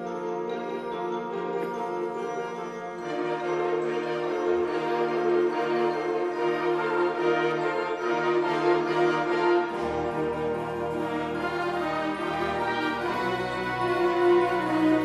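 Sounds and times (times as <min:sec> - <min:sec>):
concert band playing sustained chords: 0:02.9 - 0:15.0.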